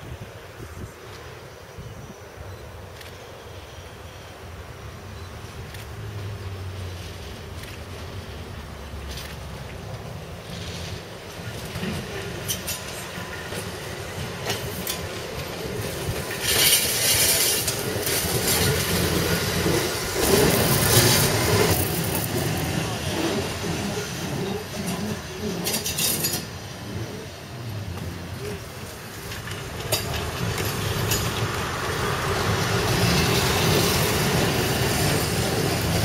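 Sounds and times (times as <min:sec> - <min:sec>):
tram wheels clattering on rails: 0:05.2 - 0:36.0.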